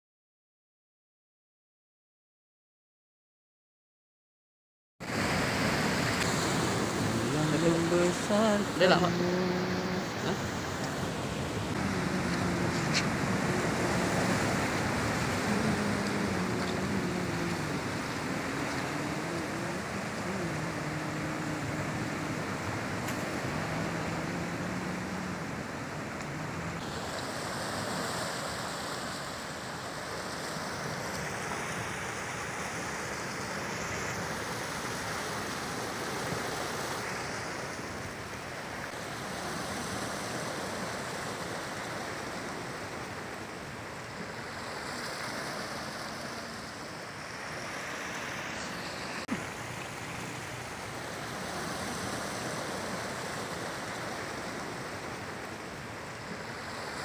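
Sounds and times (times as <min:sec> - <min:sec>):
surf washing over rocky shore: 0:05.0 - 0:57.0.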